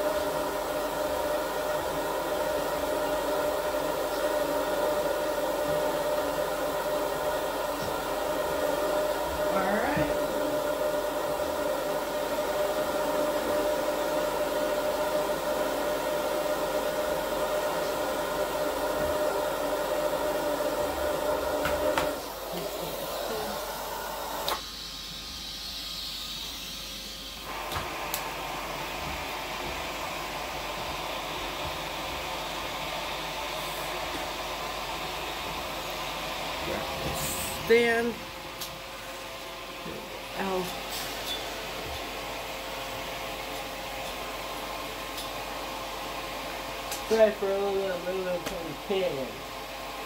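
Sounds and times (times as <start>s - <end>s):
shop vac running: 0.0s - 50.0s.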